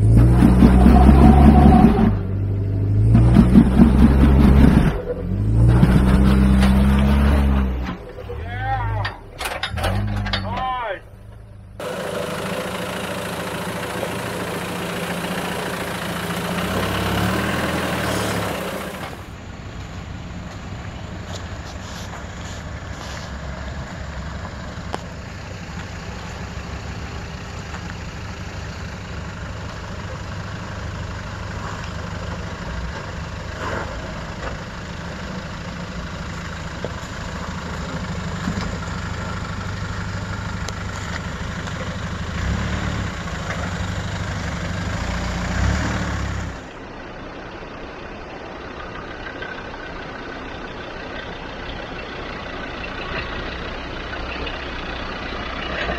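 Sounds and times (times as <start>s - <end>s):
diesel engine running under load: 0.0s - 55.9s
distant engine: 0.0s - 55.9s.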